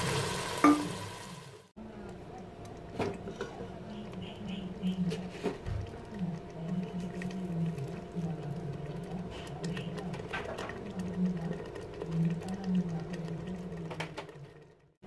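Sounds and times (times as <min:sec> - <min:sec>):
sauce simmering in a pot: 0:00.0 - 0:15.0.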